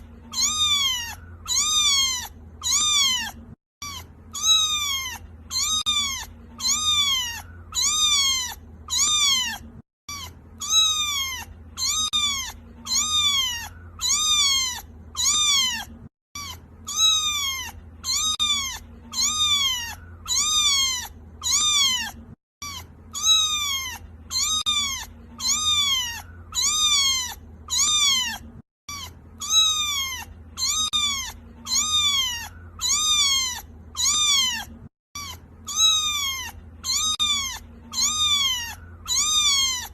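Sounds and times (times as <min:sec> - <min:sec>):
kitten meowing: 0:00.0 - 0:39.9.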